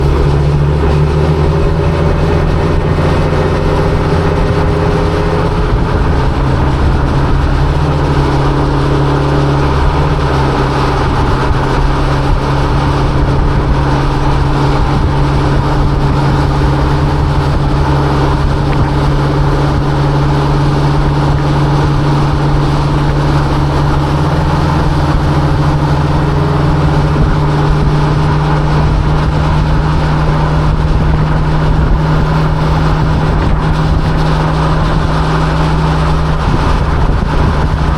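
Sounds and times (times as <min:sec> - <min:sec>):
pickup truck engine cruising: 0:00.0 - 0:37.9.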